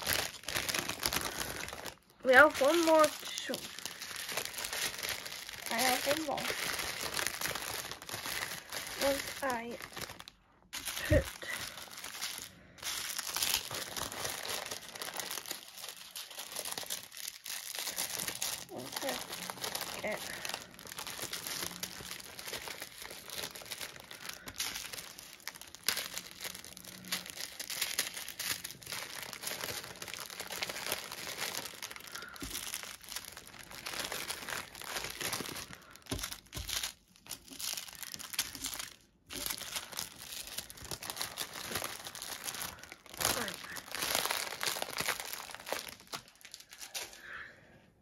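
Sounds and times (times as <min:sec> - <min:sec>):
plastic bags crinkling and rustling: 0:00.0 - 0:47.4.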